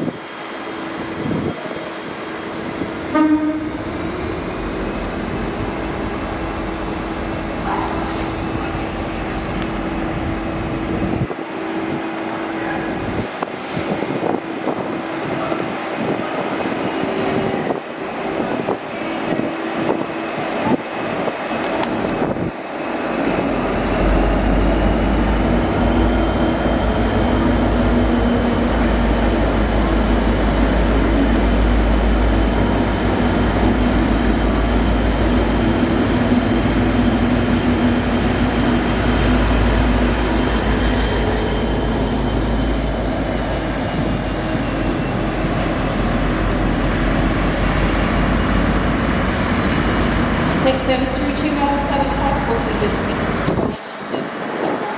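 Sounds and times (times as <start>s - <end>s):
diesel locomotive engine rumbling: 0.0s - 54.9s.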